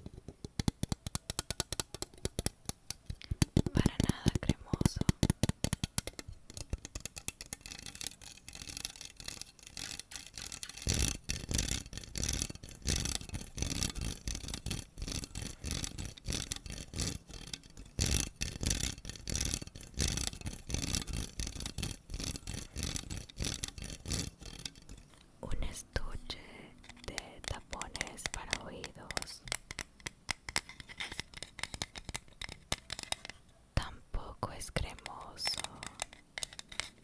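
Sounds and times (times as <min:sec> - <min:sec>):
rapid rubbing and scratching: 0:00.0 - 0:33.6, 0:34.5 - 0:37.0.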